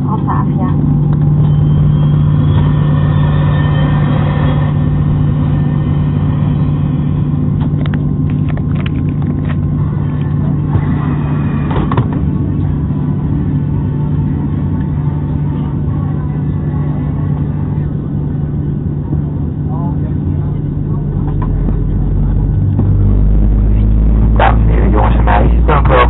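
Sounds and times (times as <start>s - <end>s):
airliner cabin hum: 0.0s - 26.0s.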